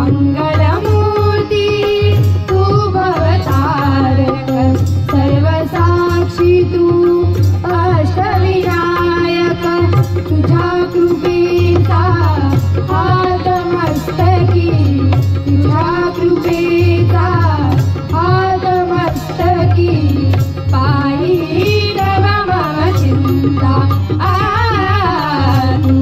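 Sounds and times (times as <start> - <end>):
held drone: 0.0 - 26.0
tabla rhythm: 0.0 - 26.0.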